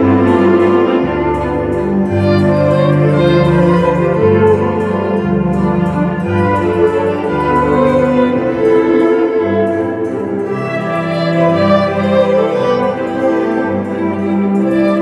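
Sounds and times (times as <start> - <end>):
string ensemble playing waltz: 0.0 - 15.0.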